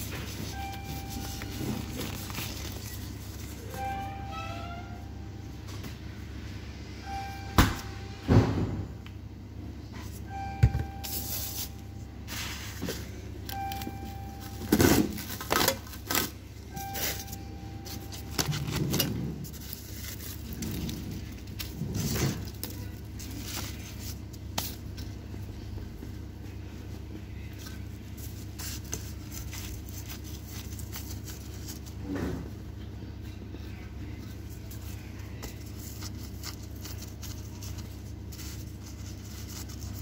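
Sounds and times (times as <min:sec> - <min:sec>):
low kitchen hum: 0:00.0 - 0:40.0.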